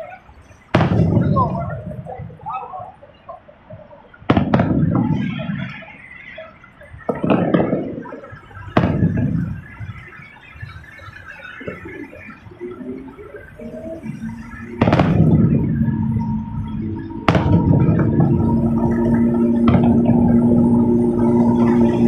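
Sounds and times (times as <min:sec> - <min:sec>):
fireworks bangs with echo: 0:00.0 - 0:12.5, 0:13.9 - 0:22.0
faint fireworks crackling: 0:00.0 - 0:22.0.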